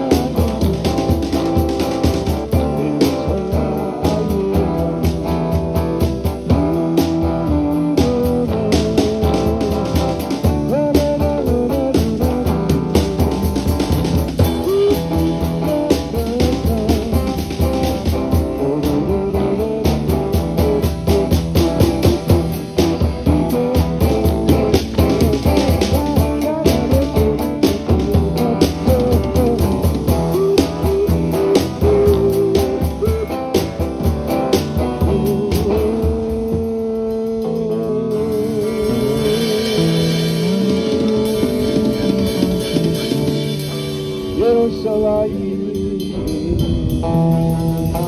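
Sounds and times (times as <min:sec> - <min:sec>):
drum kit beat: 0:00.0 - 0:48.0
electric guitars: 0:00.0 - 0:48.0.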